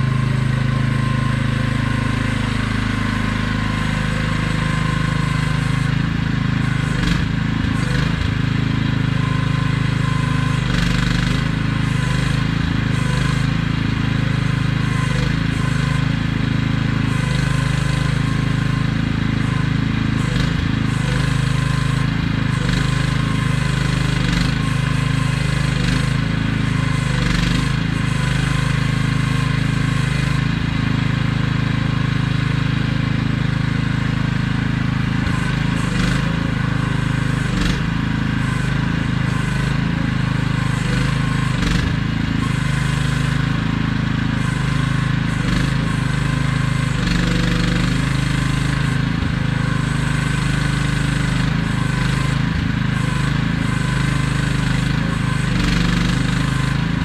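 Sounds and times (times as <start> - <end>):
mini excavator engine running: 0.0 - 57.0.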